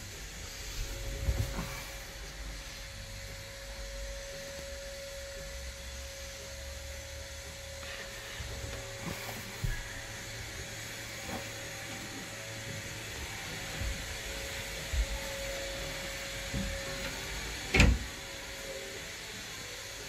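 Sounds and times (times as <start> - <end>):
hiss: 0.0 - 4.7, 7.4 - 20.0
steady mechanical hum: 0.0 - 20.0.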